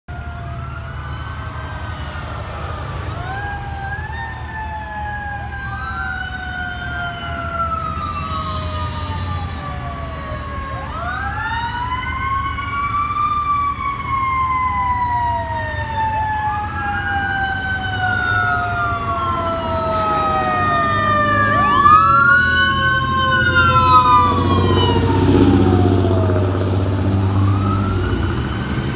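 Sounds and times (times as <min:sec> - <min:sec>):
fire truck siren wailing: 0:00.1 - 0:28.9
truck engine rumble: 0:00.1 - 0:28.9.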